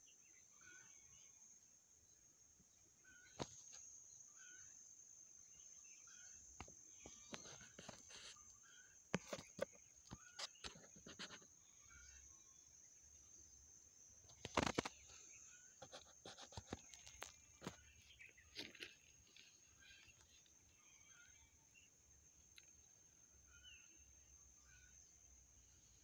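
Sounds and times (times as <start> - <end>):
steady high-pitched hiss: 0.0 - 26.0.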